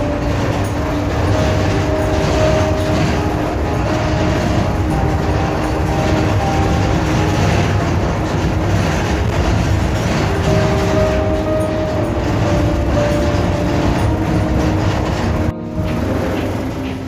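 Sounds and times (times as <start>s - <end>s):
city traffic: 0.0s - 17.0s
moving vehicle rumble: 0.0s - 17.0s.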